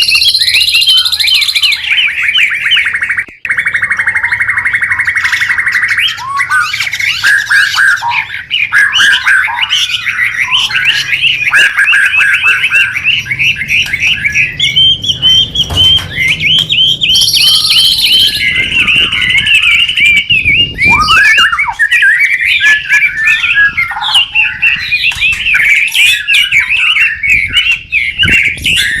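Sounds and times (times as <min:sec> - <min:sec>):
songbird singing chirps and trills: 0:00.0 - 0:29.0.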